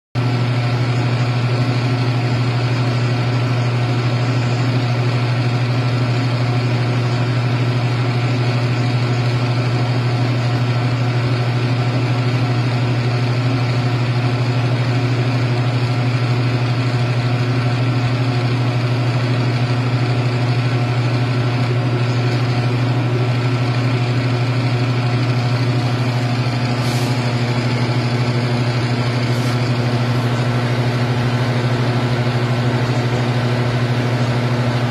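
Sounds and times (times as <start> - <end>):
printer fans and motors humming: 0.2 - 34.9.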